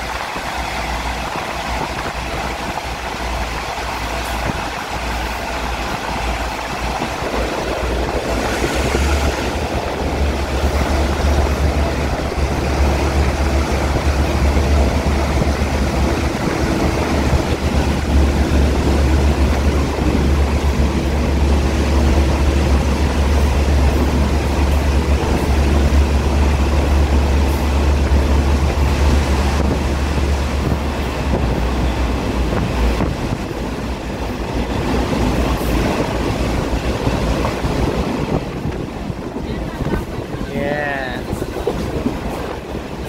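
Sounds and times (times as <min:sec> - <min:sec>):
train wheels on rail and wind: 0:00.0 - 0:43.0.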